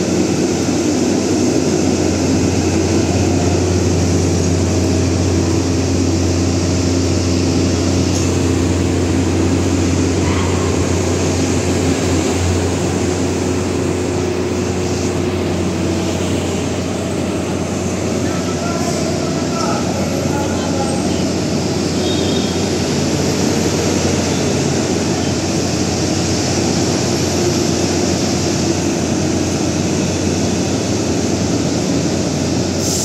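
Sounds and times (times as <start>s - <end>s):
diesel train engine drone: 0.0s - 33.0s.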